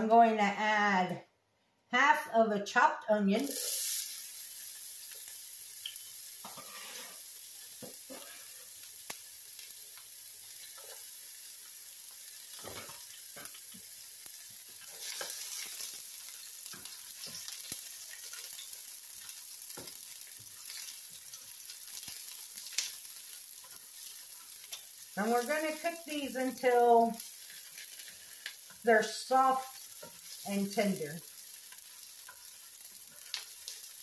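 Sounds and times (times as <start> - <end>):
onion sizzling in a skillet: 3.3 - 34.0.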